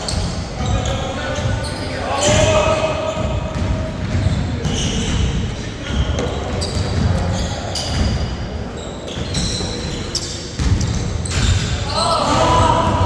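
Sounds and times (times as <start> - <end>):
sneakers squeaking on floor: 0.0 - 13.0
basketball bouncing on court: 0.1 - 8.4, 9.1 - 13.0.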